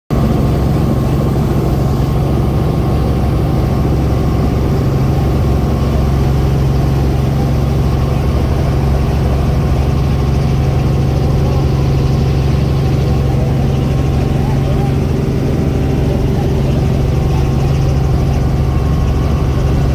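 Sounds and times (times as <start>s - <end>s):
helicopter engine and rotor drone: 0.1s - 19.9s.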